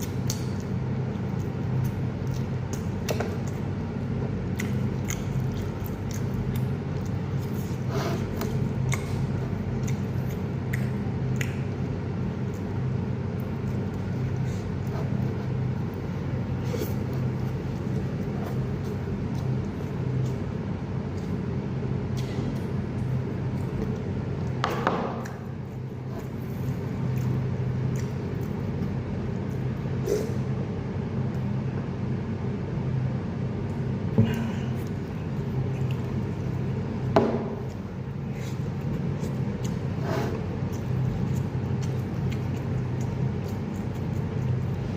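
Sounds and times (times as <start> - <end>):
chewing: 0.0 - 30.4, 34.3 - 44.9
wet squishy eating noises: 0.0 - 32.2, 33.5 - 44.9
steady low hum: 0.0 - 44.9.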